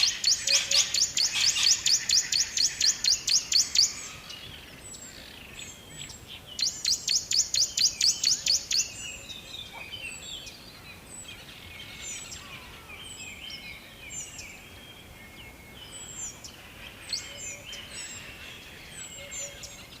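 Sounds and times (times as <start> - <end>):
birds chirping and warbling: 0.0 - 20.0.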